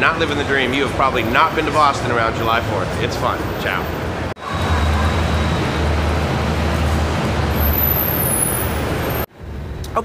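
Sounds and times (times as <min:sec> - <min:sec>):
bus engine rumbling: 0:00.0 - 0:10.0
traffic noise: 0:00.0 - 0:10.0.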